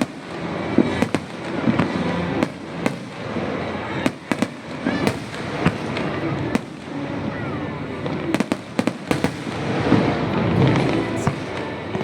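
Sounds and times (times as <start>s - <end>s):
continuous firework bursts: 0.0s - 12.0s.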